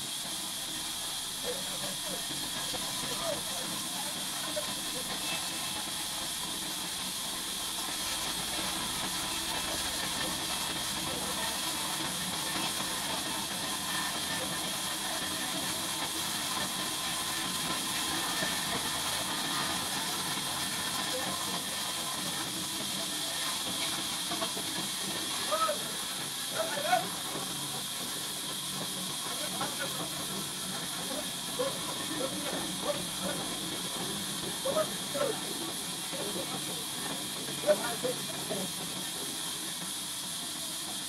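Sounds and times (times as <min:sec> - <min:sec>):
band sawmill hissing: 0:00.0 - 0:41.0.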